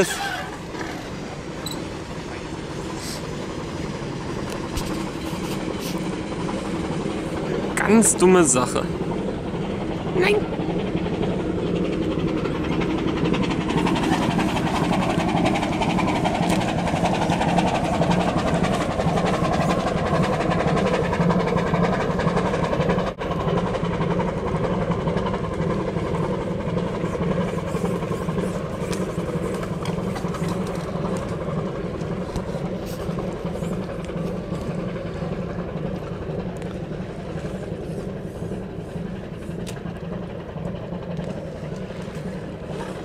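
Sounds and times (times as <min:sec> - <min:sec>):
low hum: 0:00.0 - 0:43.0
steady rumbling noise: 0:00.0 - 0:43.0.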